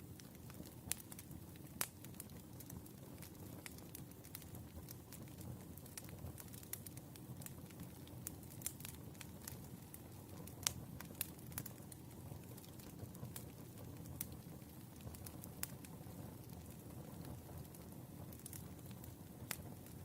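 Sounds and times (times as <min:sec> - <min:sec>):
fire crackling and popping: 0:00.0 - 0:20.0
fire rumbling: 0:00.0 - 0:20.0.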